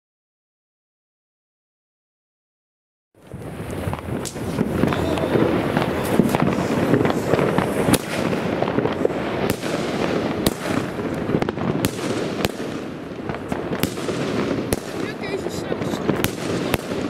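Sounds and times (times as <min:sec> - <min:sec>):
continuous firework crackle: 0:03.2 - 0:17.0
firework shots cracking: 0:03.2 - 0:17.0.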